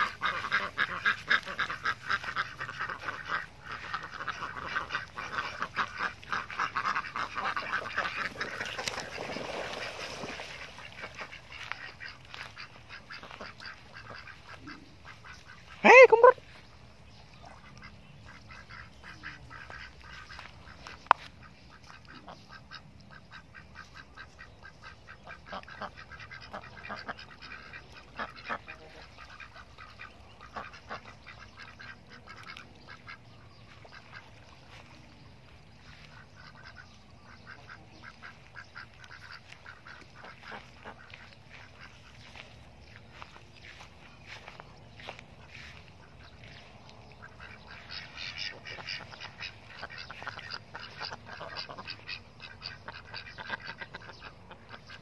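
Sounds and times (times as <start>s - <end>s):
ducks quacking: 0.0s - 55.0s.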